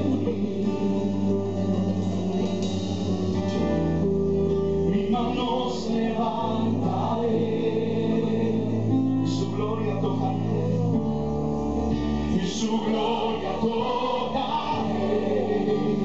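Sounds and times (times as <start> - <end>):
voices singing worship music: 0.0 - 16.0.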